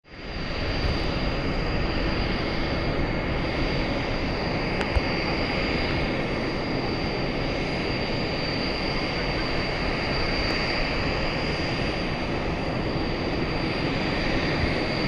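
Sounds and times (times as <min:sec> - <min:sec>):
jet engines running: 0:00.1 - 0:15.0.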